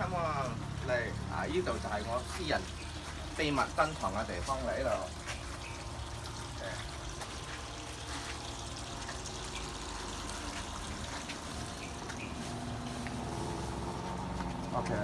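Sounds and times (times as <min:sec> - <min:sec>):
trickle of running water: 0:00.0 - 0:15.0.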